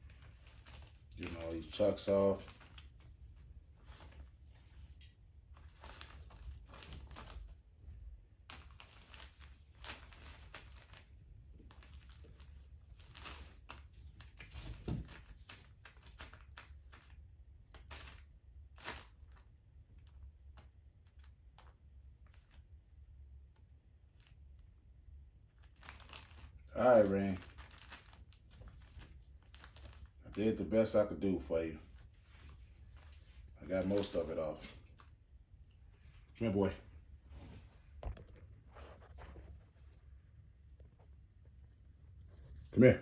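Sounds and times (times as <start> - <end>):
faint crinkling and rustling: 0.0 - 43.0.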